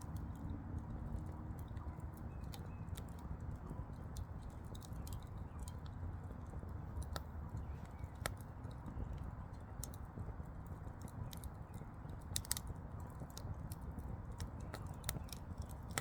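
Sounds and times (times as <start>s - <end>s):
fire crackling and popping: 0.0s - 16.0s
low rumble of fire: 0.0s - 16.0s.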